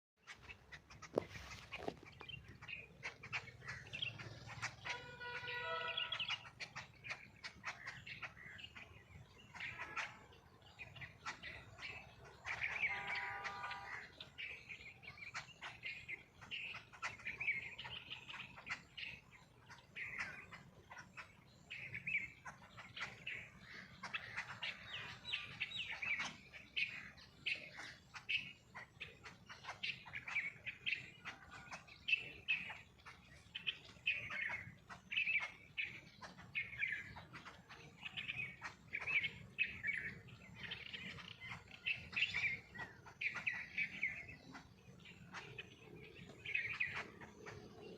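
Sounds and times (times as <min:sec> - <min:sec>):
small birds chirping: 0:00.2 - 0:47.9.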